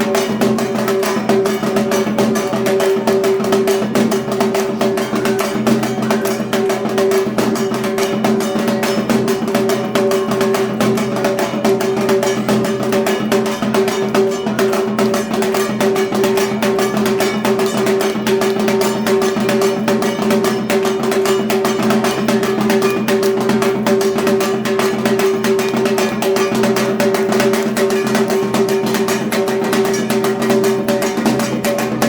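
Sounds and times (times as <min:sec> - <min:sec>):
drums in a fast rhythm: 0:00.0 - 0:32.0.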